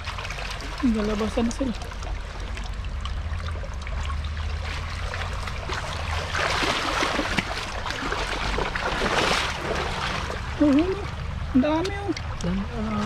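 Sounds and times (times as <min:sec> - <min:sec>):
water splashing and sloshing: 0:00.0 - 0:13.0
water trickling in a creek: 0:00.0 - 0:13.0.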